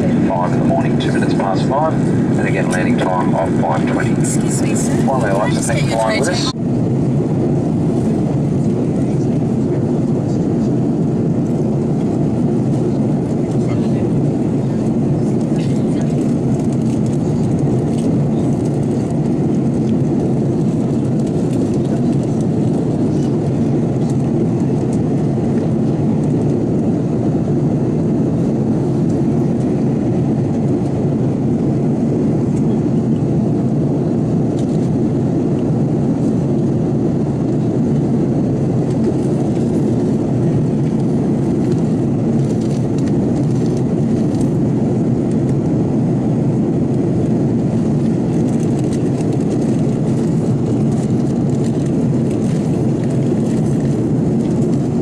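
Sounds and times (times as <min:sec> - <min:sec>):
airliner cabin drone: 0:00.0 - 0:55.0.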